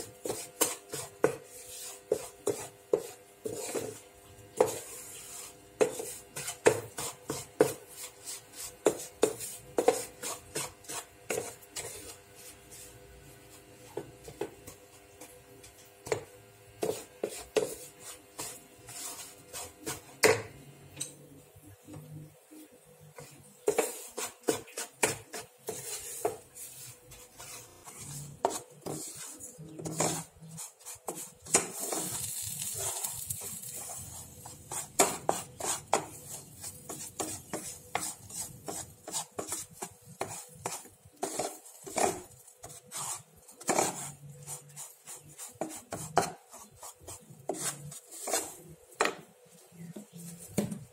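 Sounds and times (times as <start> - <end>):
wooden spatula scraping a pan: 0.0 - 20.5, 22.6 - 50.9.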